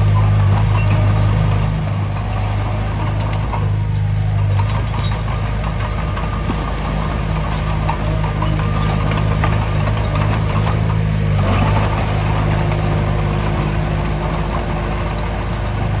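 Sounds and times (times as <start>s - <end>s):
diesel engine running: 0.0s - 16.0s
light clanking and rattling: 0.0s - 16.0s.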